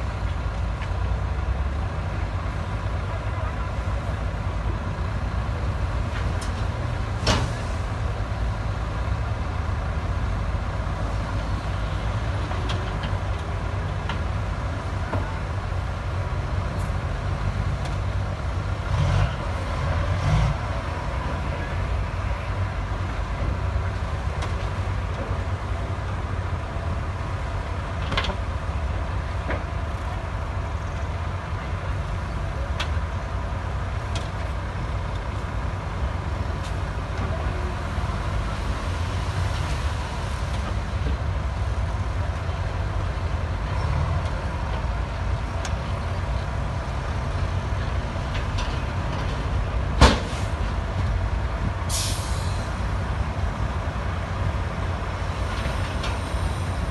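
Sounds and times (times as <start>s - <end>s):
diesel engine rumbling: 0.0s - 56.9s.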